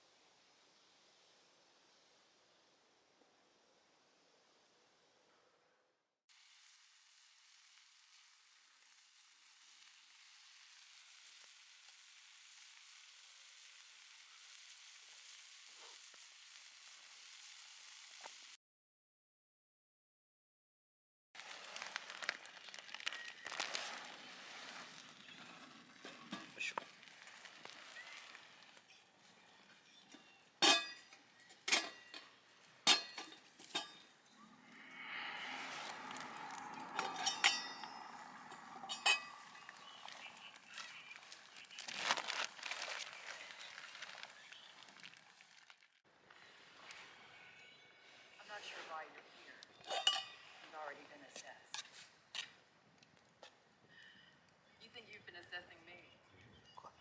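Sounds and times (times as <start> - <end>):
faint sizzling hiss: 6.3 - 18.6, 21.4 - 56.1.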